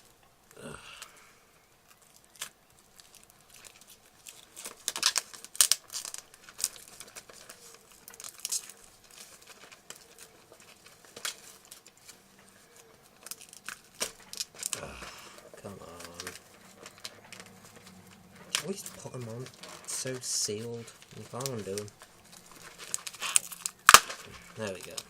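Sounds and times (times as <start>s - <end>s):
plastic wrapping crinkling and tearing: 0.0s - 25.0s.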